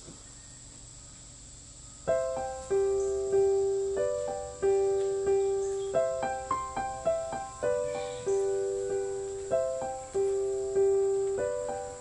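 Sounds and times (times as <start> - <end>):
solo piano: 2.0 - 12.0.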